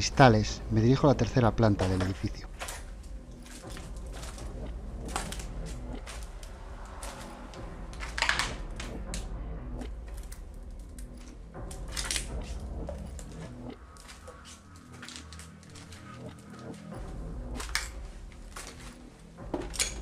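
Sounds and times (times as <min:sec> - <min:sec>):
footsteps crunching over debris: 0:01.6 - 0:09.1, 0:09.9 - 0:20.0.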